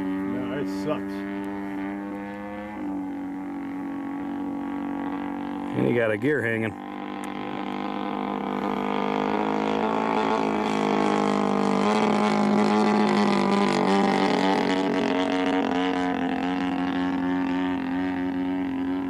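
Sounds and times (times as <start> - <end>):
model plane gas engine droning: 0.0 - 19.0.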